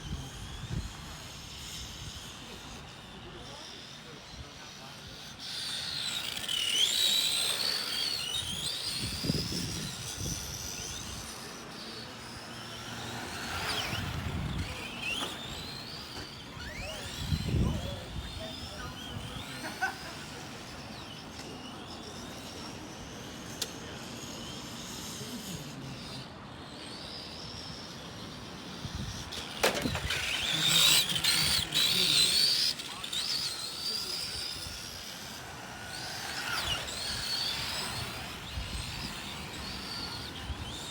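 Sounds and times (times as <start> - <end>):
toy truck electric motors whining: 0.0 - 40.9.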